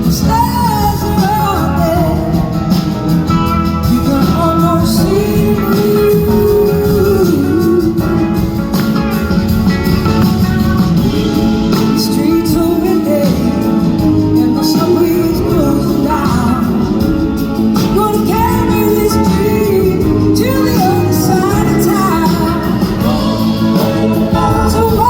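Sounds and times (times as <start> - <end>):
live rock band playing: 0.0 - 25.0
sliding lead guitar line: 0.0 - 25.0.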